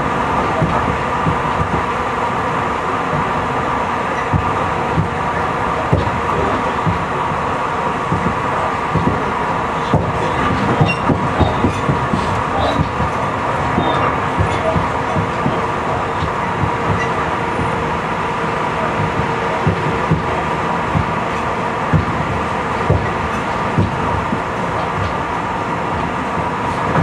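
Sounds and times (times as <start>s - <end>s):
electric train rumble and hum: 0.0s - 27.0s
wheels clacking over rail joints: 0.0s - 27.0s.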